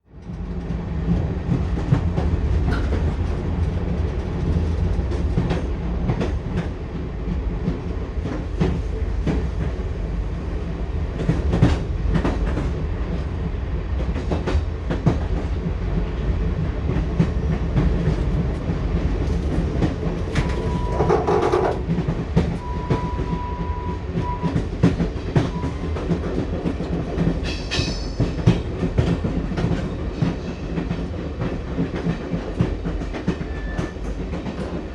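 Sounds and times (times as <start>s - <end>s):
train rumbling on track: 0.0s - 34.9s
wheels clickety-clack over rail joints: 0.1s - 34.9s.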